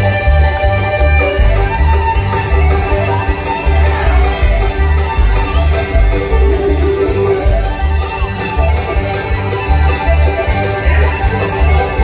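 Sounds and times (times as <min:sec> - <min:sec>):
fiddle: 0:00.0 - 0:12.0
mandolin: 0:00.0 - 0:12.0.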